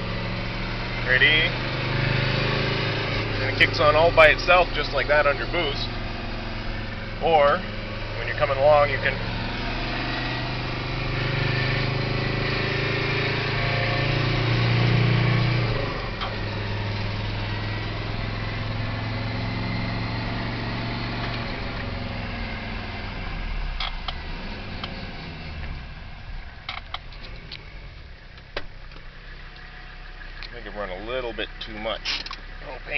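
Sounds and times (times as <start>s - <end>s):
diesel engine accelerating: 0.0s - 32.9s.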